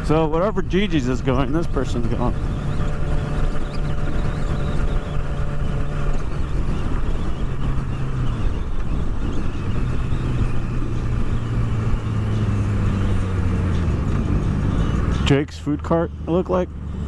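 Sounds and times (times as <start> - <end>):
wind rush: 0.0 - 15.2
motorcycle engine running: 0.0 - 17.0.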